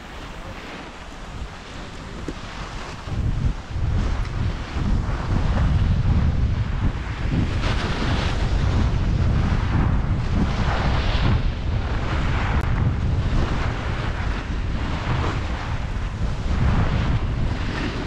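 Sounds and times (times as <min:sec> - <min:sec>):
skis scraping over snow: 0:00.0 - 0:18.0
wind buffeting microphone: 0:00.0 - 0:18.0.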